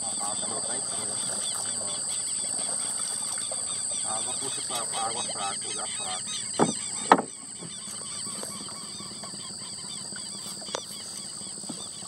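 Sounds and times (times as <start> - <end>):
chorus of small animal calls: 0.0 - 12.0.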